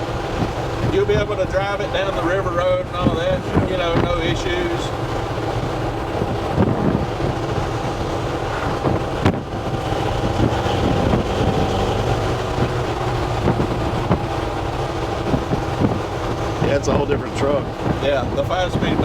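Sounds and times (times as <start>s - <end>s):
car engine cruising drone: 0.0s - 19.0s
road noise: 0.0s - 19.0s
wind noise: 0.0s - 19.0s.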